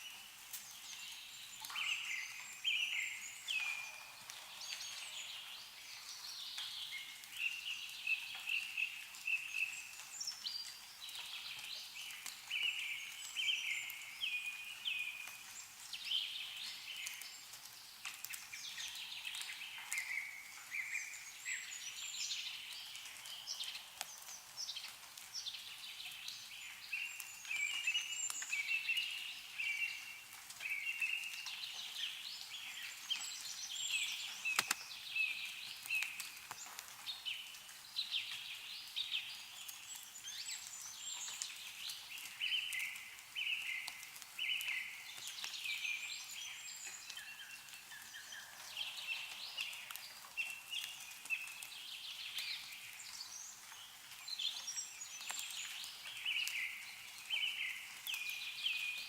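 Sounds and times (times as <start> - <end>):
meltwater dripping: 0.0 - 59.0
small birds chirping: 0.0 - 59.0.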